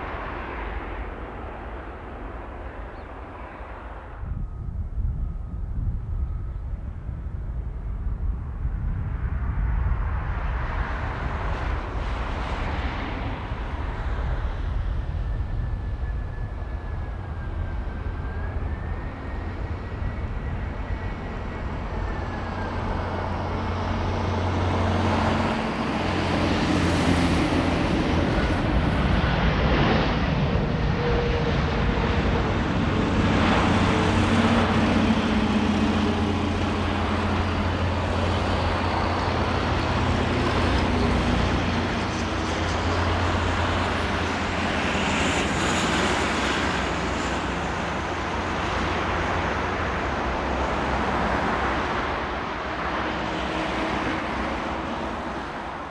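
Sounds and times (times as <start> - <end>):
jet airliner engines running: 0.0 - 55.9.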